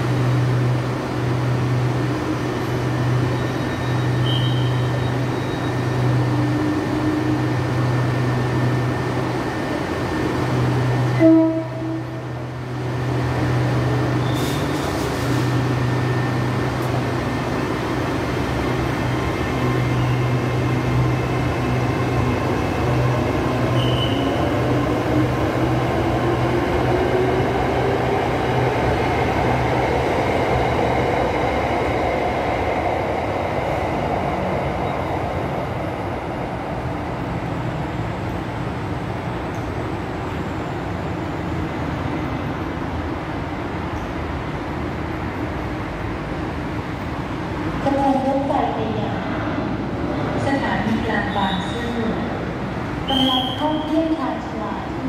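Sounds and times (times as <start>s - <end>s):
electric train running past: 0.0s - 55.0s.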